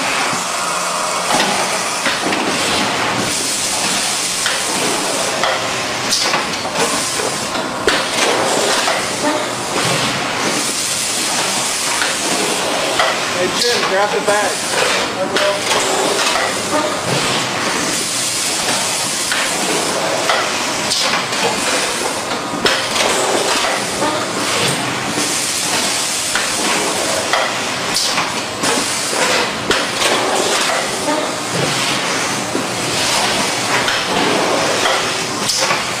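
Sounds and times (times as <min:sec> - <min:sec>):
bagging machine running: 0:00.0 - 0:36.0.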